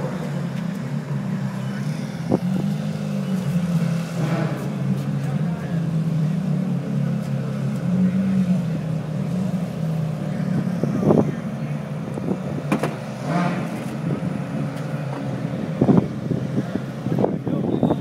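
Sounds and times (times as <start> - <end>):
race car engine idling: 0.0 - 18.0.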